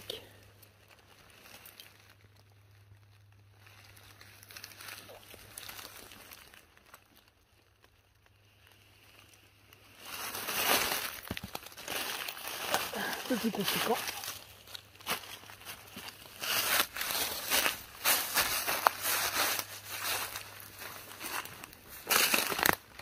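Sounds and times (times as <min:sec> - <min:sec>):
dry leaves crunching underfoot: 0:00.0 - 0:23.0.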